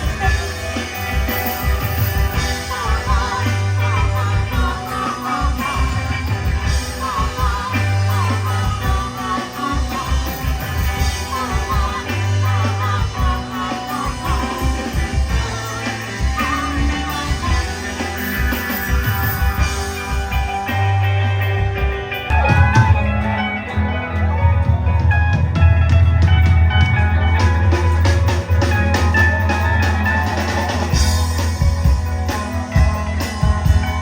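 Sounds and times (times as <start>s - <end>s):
bass: 0.0s - 34.0s
drums: 0.0s - 34.0s
electric guitar: 0.0s - 34.0s.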